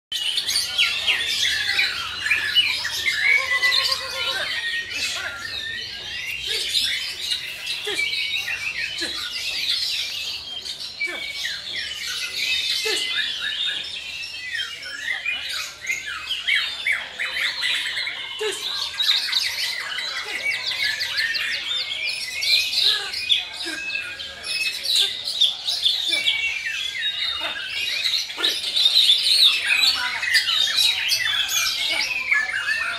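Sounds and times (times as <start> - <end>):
birds singing whistles and trills: 0.1 - 32.9.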